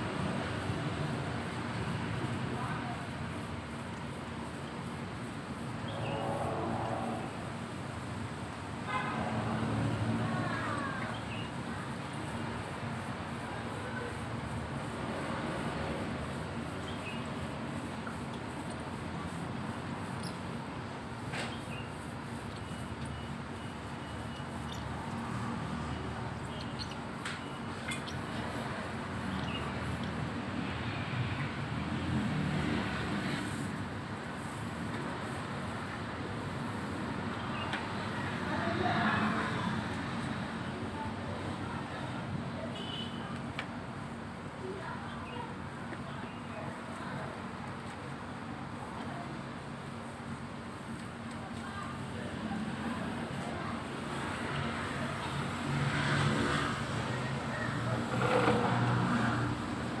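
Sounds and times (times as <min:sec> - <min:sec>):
road traffic noise: 0:00.0 - 1:00.0.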